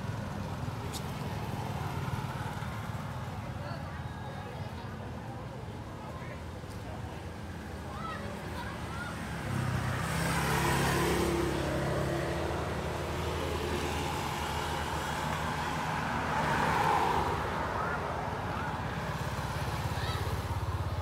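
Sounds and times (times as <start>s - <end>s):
vehicles passing by: 0.0s - 21.0s.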